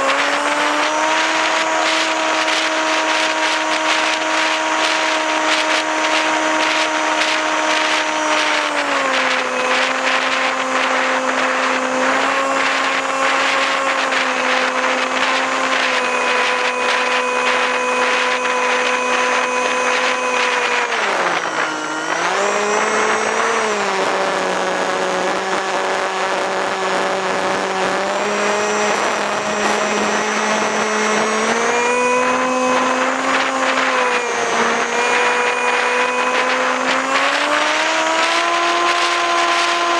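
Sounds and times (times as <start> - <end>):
model plane motor buzzing: 0.0 - 39.9
wind rushing over microphone: 0.0 - 39.9.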